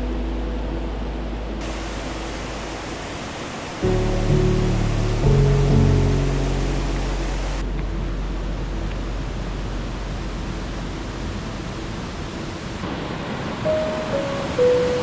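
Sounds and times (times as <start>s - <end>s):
rushing stream water: 1.2s - 15.0s.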